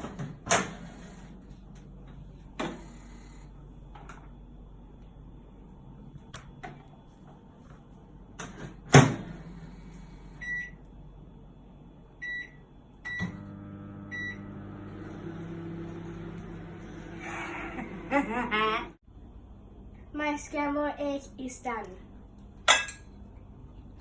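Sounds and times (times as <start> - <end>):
microwave oven humming: 0.0 - 20.4.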